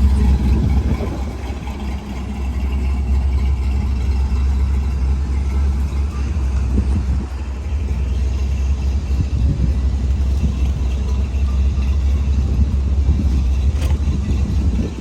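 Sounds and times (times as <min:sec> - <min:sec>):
car traffic passing: 0:00.0 - 0:15.0
deep steady rumble: 0:00.0 - 0:15.0.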